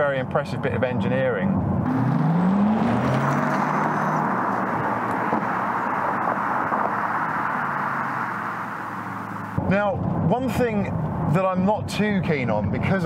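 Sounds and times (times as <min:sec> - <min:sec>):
tyre and road noise: 0:00.8 - 0:11.6.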